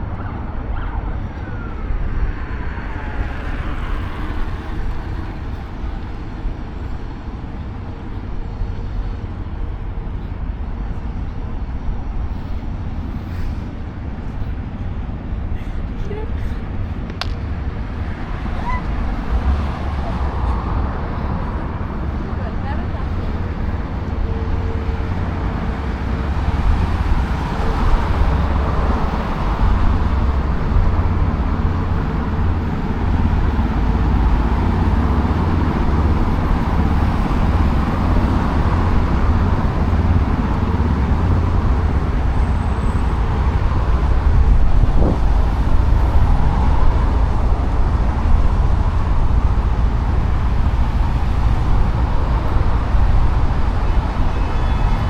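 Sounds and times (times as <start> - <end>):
road traffic hum: 0.0 - 55.0.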